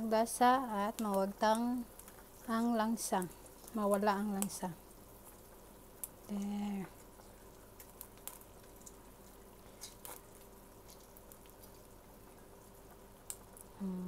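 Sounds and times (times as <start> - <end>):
faint steady hum: 0.0 - 14.0
food simmering in a pot: 0.0 - 14.0.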